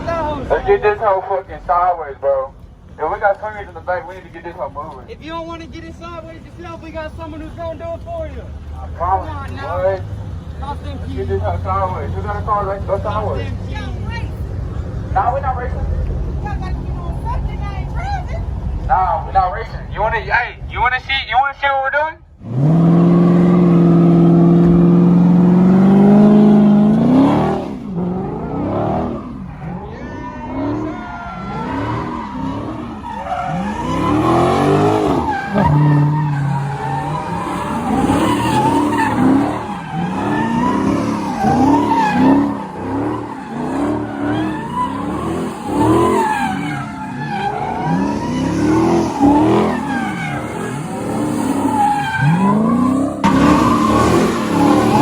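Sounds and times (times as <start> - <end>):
tires squealing: 0.0 - 21.6, 22.4 - 55.0
car engine revving: 2.6 - 20.8, 22.3 - 55.0.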